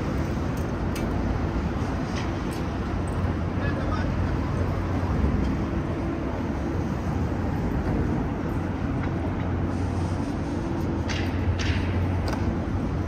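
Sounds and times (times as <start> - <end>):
engine hum: 0.0 - 13.0
traffic rumble: 0.0 - 13.0.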